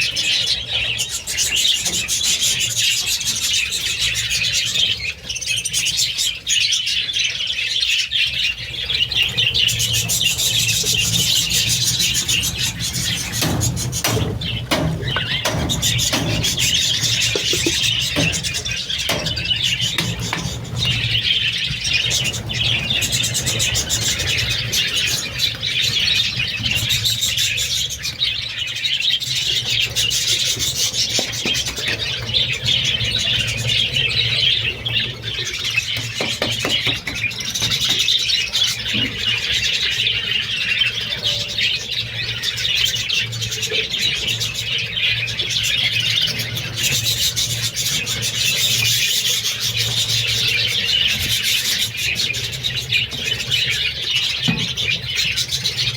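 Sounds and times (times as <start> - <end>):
budgerigars chirping and warbling: 0.0 - 55.9.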